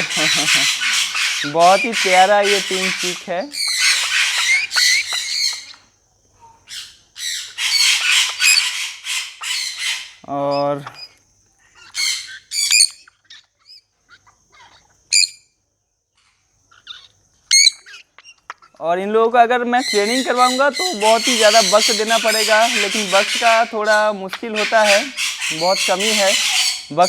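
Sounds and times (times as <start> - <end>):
parrot chicks squawking: 0.0 - 15.4, 16.2 - 27.0.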